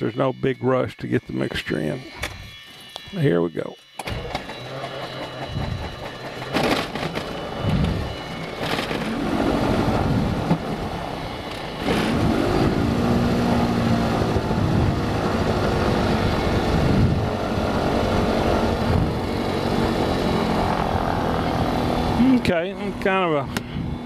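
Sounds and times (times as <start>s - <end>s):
aircraft engine cranking and running: 0.0s - 24.0s.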